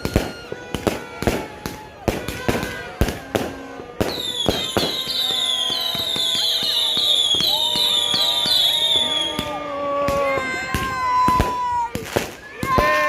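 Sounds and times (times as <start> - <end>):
firework bangs: 0.0 - 13.0
firework whistles: 0.0 - 13.0.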